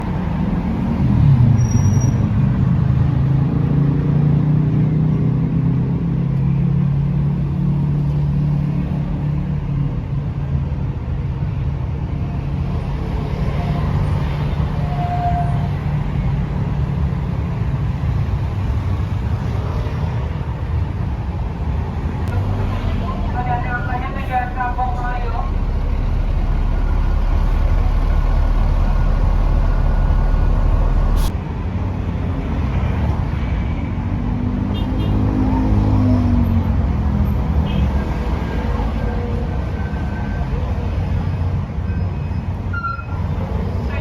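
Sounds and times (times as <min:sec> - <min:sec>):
bus engine rumble: 0:00.0 - 0:44.0
road noise: 0:00.0 - 0:44.0.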